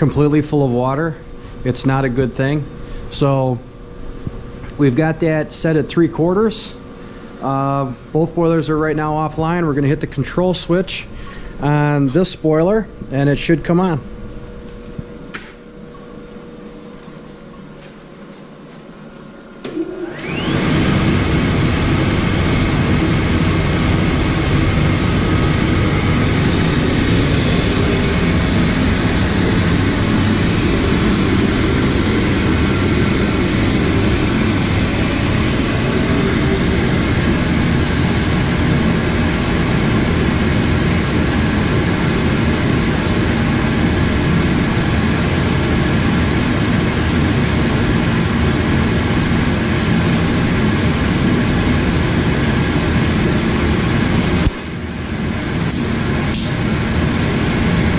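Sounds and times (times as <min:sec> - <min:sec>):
blower whine and air rush: 0:00.0 - 0:57.9.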